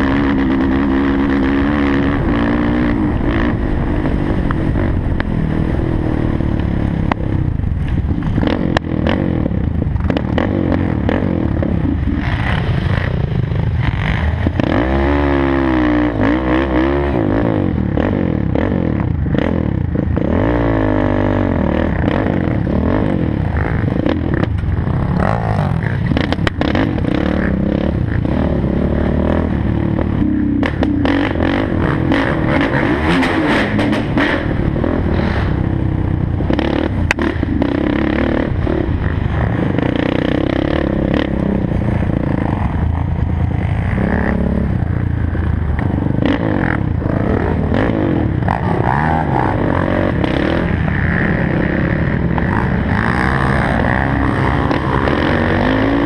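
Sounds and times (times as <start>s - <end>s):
quad engine revving: 0.0s - 7.5s, 8.2s - 56.0s.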